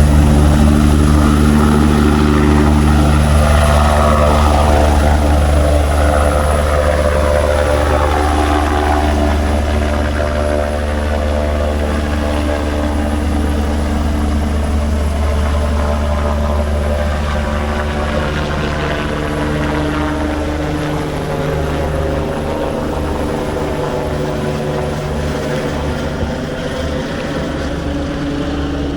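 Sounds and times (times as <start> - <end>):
helicopter engine whine: 0.0 - 28.9
helicopter rotor beat: 0.0 - 28.9.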